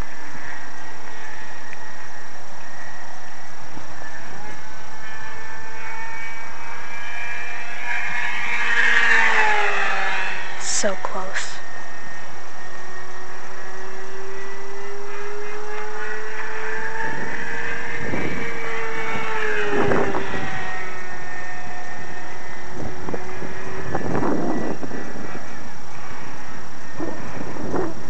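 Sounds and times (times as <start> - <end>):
model plane motor whining: 0.1 - 28.0.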